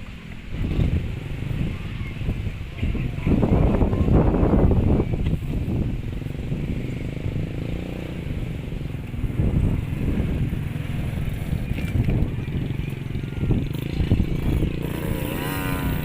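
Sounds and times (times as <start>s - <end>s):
dirt bike engines running: 0.0s - 16.0s.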